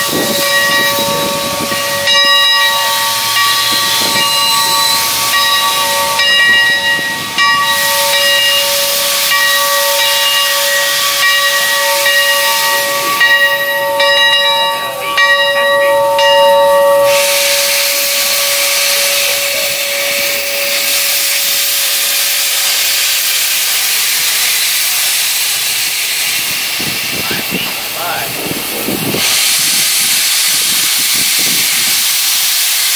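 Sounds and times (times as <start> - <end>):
steady whistling tones: 0.0 - 32.0
steam hissing: 0.0 - 32.9
steam jetting from cylinder cocks: 0.0 - 32.9.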